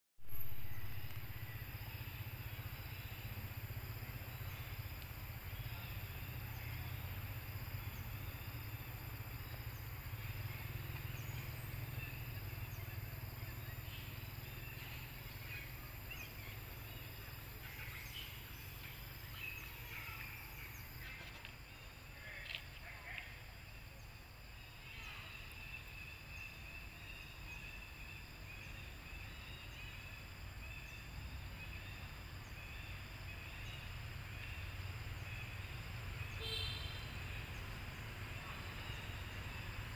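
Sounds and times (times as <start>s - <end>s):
insect drone: 0.2s - 39.9s.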